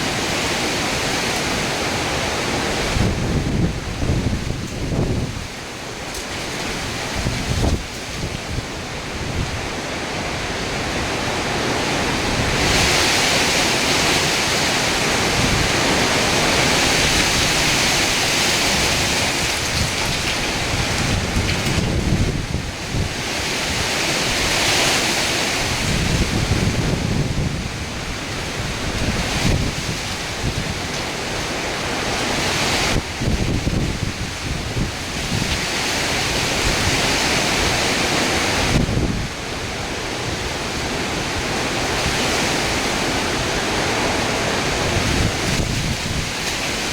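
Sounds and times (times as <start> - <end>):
wind and rain hiss: 0.0 - 46.9
wind buffeting microphone: 0.0 - 46.9.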